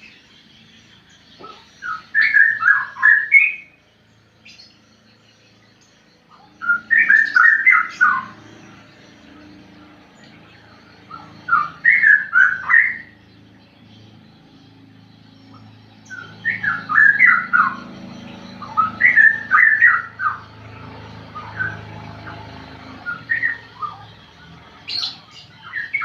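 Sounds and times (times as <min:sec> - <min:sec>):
bird whistling gliding notes: 0:00.0 - 0:26.0.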